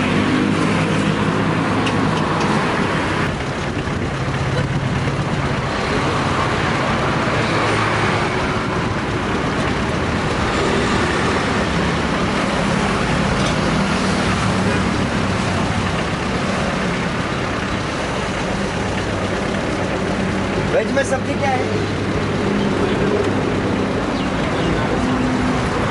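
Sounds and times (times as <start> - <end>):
road traffic passing: 0.0 - 25.9.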